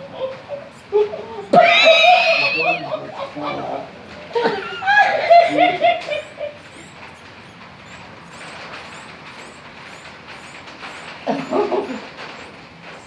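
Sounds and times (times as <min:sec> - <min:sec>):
loud animal call: 0:00.0 - 0:13.0.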